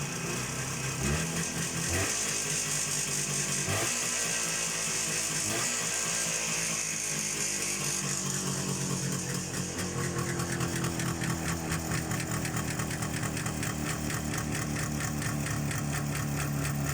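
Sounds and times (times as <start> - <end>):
two-stroke engine idling: 0.0 - 16.9.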